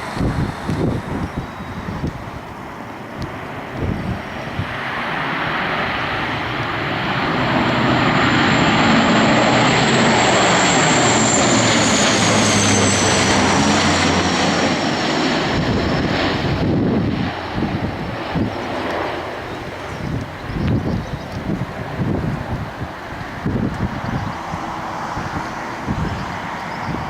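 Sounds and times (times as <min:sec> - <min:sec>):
airliner engine noise passing: 0:00.0 - 0:27.0.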